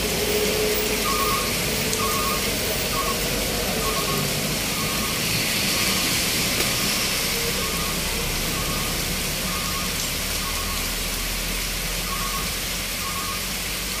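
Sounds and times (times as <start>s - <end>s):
heavy rain pouring: 0.0s - 14.0s
truck engines droning: 0.0s - 14.0s.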